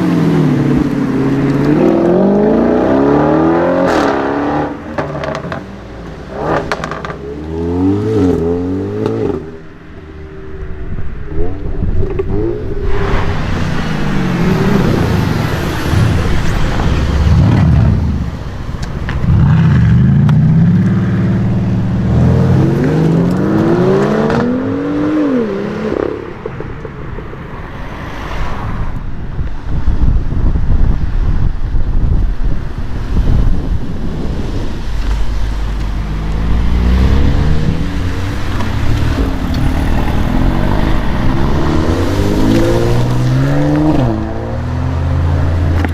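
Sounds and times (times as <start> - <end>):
car engines revving past: 0.0 - 29.0, 34.0 - 45.9.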